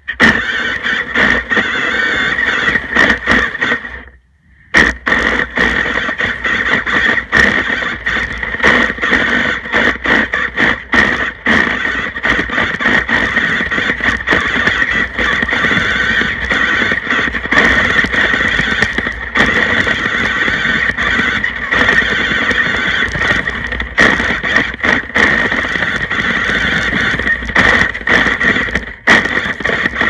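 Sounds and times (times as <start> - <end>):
track churning through snow: 0.0 - 30.0
toy motor high-pitched whine: 0.1 - 30.0.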